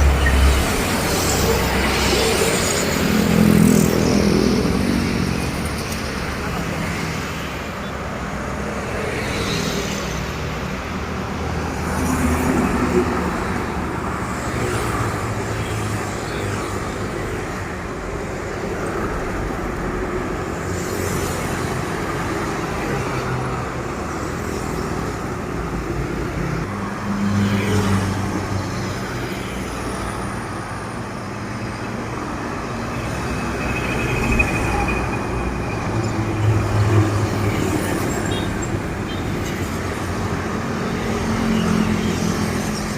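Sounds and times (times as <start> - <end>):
road traffic noise: 0.0 - 42.9
trucks passing with diesel rumble: 0.0 - 42.9.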